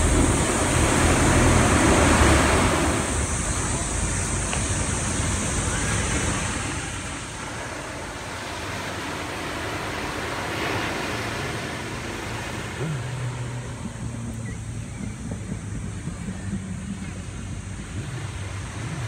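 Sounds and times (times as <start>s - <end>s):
waves washing onto beach: 0.0s - 19.0s.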